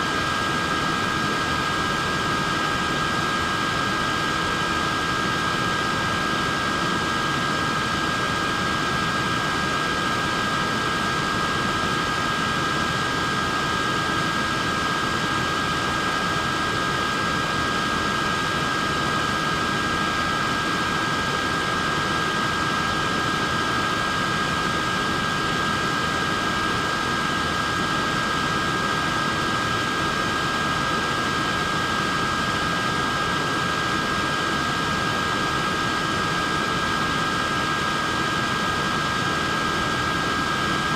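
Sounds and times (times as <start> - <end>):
neck fan running: 0.0 - 40.9.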